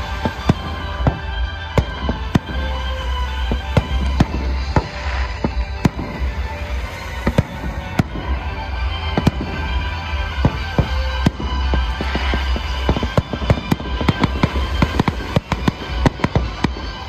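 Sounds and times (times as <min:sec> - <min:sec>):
fireworks bursting: 0:00.0 - 0:17.0
music with heavy bass: 0:00.0 - 0:17.0.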